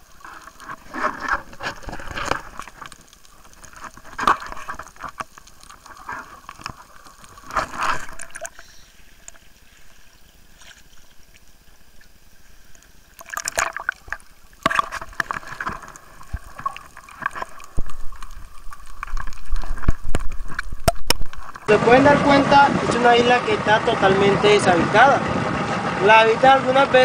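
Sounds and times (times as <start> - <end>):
water splashing and sloshing: 0.0 - 21.7.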